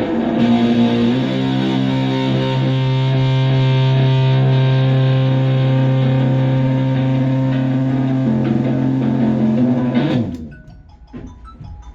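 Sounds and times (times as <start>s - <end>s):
fuzzed electric guitar note: 0.0s - 10.5s.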